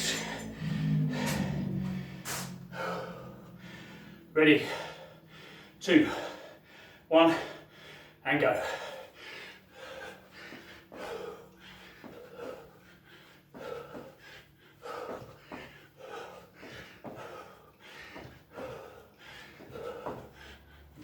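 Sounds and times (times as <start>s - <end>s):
person breathing hard: 0.0s - 21.0s.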